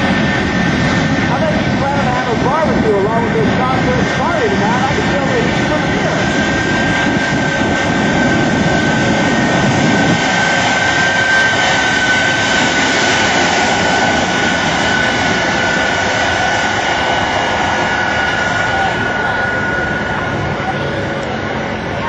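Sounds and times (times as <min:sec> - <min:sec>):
high turbine whine: 0:00.0 - 0:22.0
jet engine rushing roar: 0:00.0 - 0:22.0.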